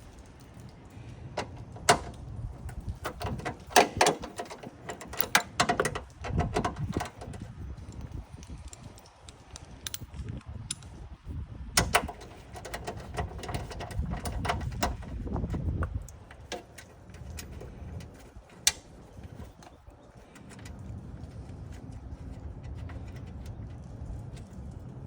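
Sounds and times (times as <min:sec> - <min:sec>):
tools clicking and rattling: 0:00.0 - 0:11.0, 0:11.8 - 0:25.0.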